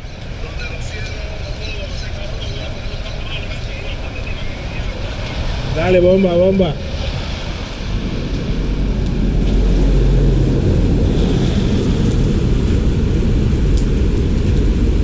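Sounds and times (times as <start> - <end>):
rain hiss: 0.0 - 15.0
wind: 0.0 - 15.0.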